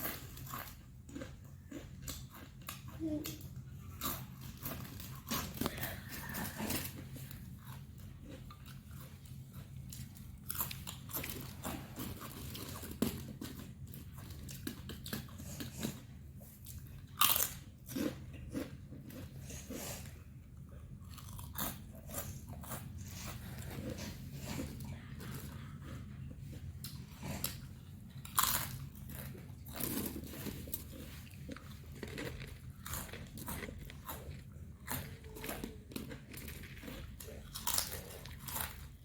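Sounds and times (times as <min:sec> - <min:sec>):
person chewing crunchy food: 0:00.0 - 0:39.0.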